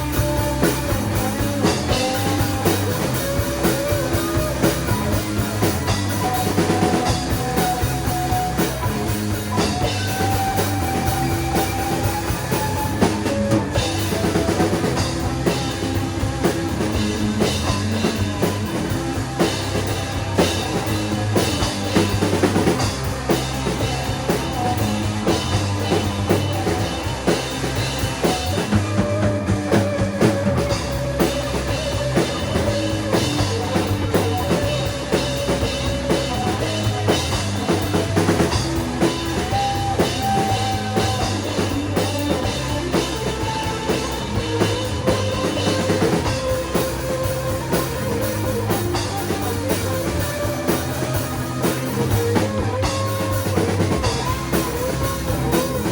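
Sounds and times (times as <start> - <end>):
bass guitar: 0.0 - 55.9
drum kit beat: 0.0 - 55.9.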